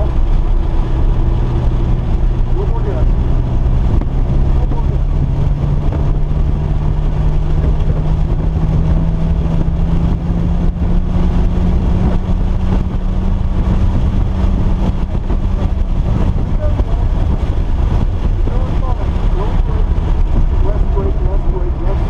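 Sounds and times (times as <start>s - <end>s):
car engine running: 0.0s - 22.0s
heavy low rumble: 0.0s - 22.0s.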